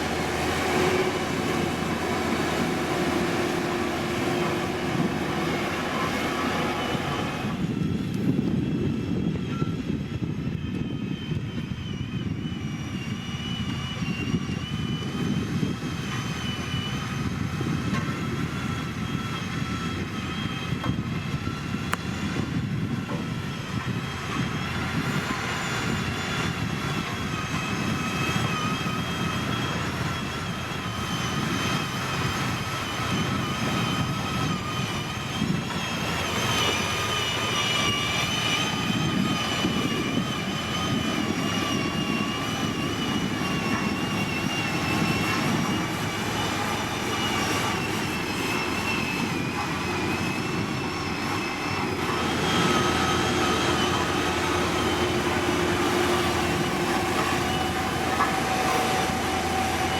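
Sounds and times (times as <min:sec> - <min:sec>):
diesel machinery engine rumble: 0:00.0 - 0:09.3, 0:17.2 - 0:59.9
high wavering whine: 0:00.0 - 0:59.9.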